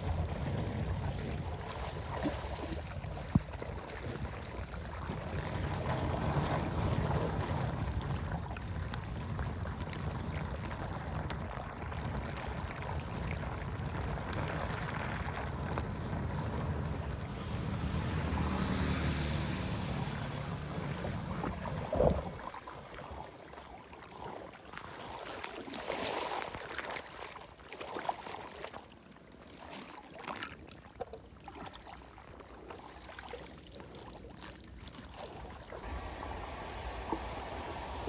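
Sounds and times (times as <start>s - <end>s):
water splashing and running: 0.0s - 38.0s.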